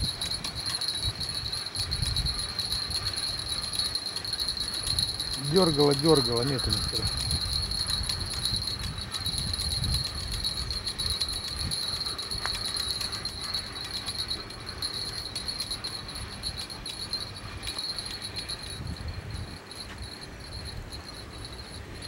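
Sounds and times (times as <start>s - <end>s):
crickets trilling: 0.0s - 22.0s
low wind rumble: 0.0s - 22.0s.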